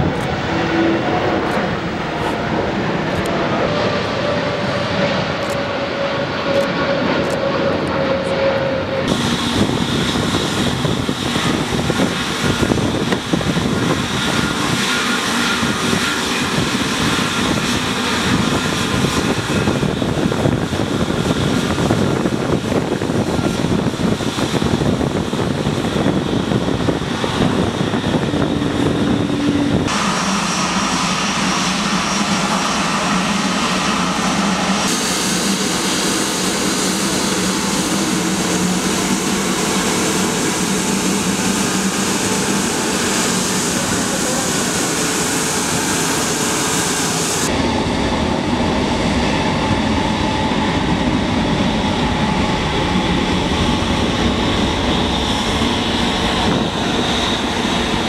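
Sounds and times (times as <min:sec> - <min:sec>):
jet engine roar: 0:00.0 - 0:58.0
jet engine whine: 0:00.0 - 0:58.0.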